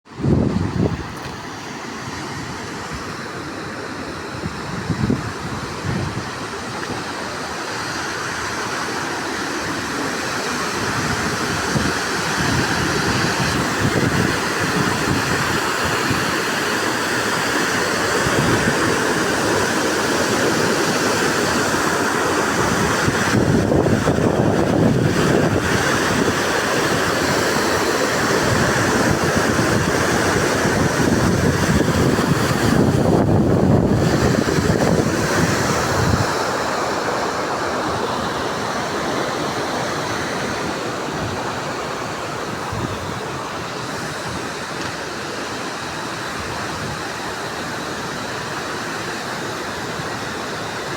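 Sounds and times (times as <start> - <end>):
floodwater rushing: 0.1 - 50.9.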